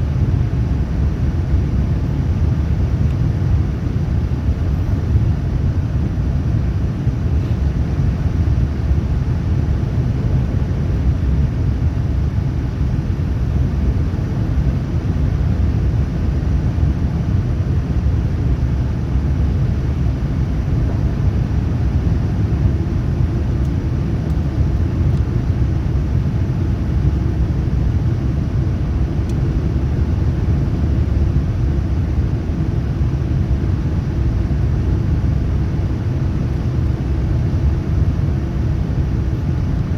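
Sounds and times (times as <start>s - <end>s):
airflow and jet engines rumble: 0.0s - 39.9s.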